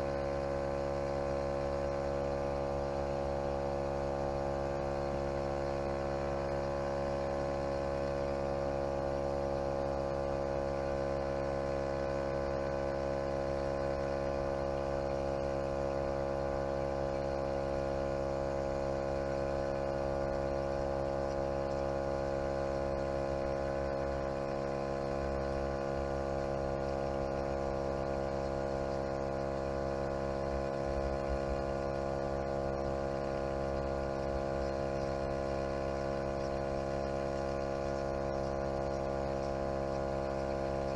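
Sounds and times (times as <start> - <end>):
air compressor motor hum: 0.0 - 40.9.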